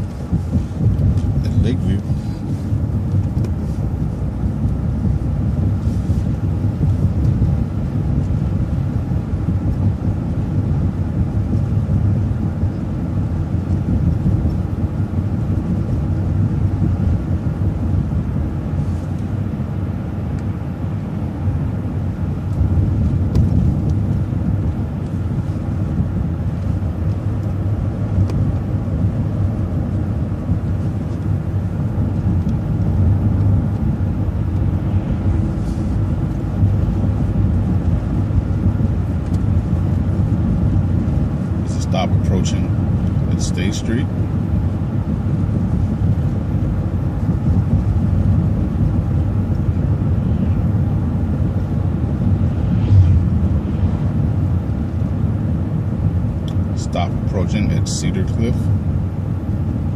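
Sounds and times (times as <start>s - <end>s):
bus engine drone: 0.0s - 59.9s
road rumble: 0.0s - 59.9s.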